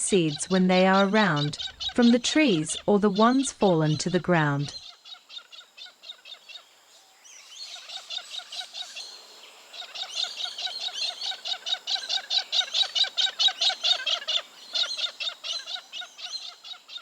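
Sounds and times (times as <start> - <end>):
galahs screeching calls: 0.0 - 6.5, 9.8 - 17.0.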